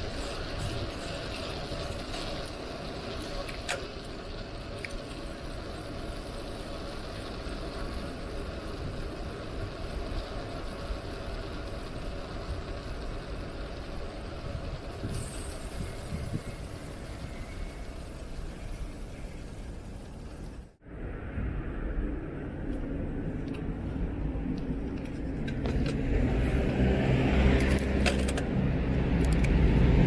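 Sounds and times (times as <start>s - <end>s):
bicycle rolling noise: 0.0s - 30.0s
wind rumble: 0.0s - 30.0s.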